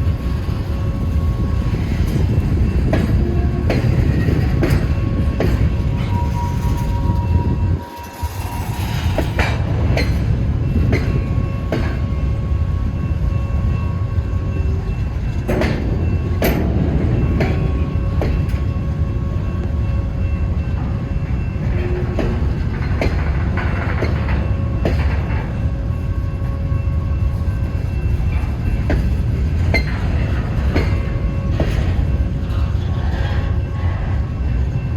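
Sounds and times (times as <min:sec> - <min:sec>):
freight train rumbling past: 0:00.0 - 0:34.9.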